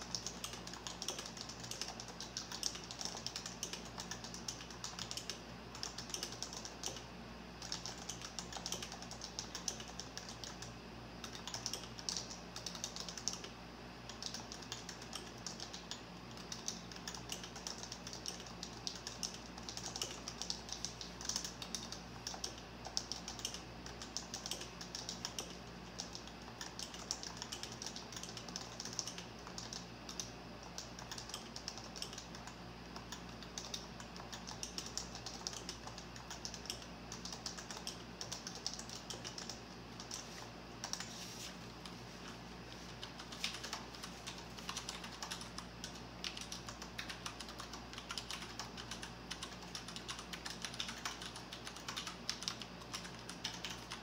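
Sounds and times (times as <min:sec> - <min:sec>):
fast typing on keyboard: 0:00.0 - 0:41.2, 0:41.8 - 0:54.0
faint low hum: 0:00.0 - 0:54.0.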